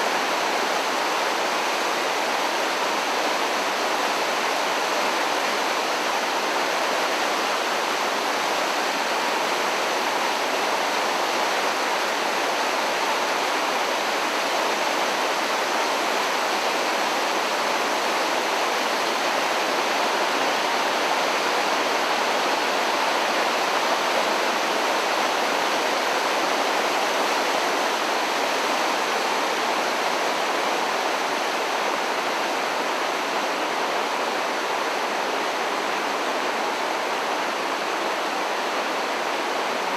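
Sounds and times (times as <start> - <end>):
floodwater rushing down a creek: 0.0 - 39.9.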